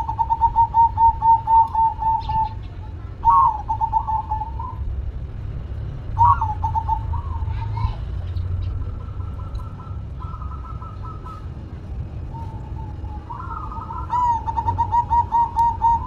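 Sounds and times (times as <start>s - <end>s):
dove cooing: 0.0s - 4.9s, 6.1s - 16.0s.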